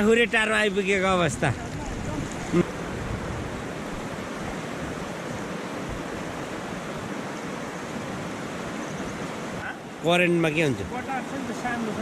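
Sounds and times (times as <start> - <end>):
fast river rushing: 0.0 - 12.0.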